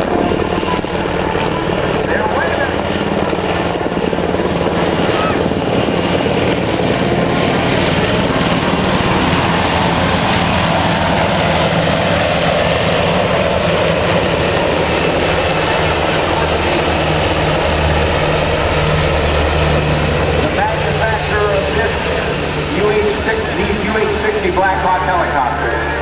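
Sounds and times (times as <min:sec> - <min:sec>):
helicopter engine whine: 0:00.0 - 0:26.0
helicopter rotor blades chopping: 0:00.0 - 0:26.0.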